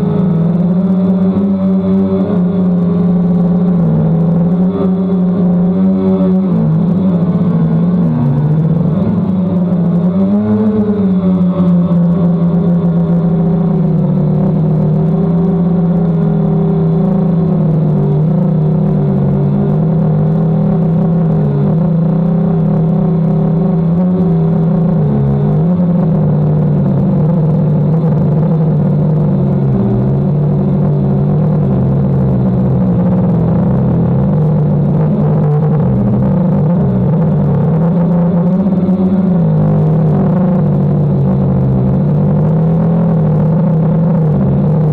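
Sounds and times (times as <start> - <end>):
drone propellers humming: 0.0 - 44.9.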